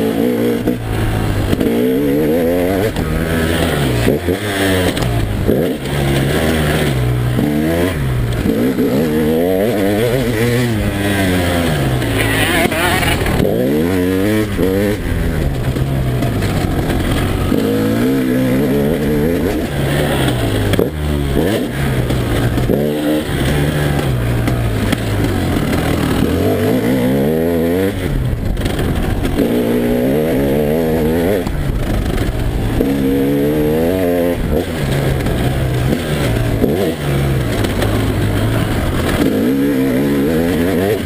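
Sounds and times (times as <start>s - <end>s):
two-stroke engine revving: 0.0s - 41.0s.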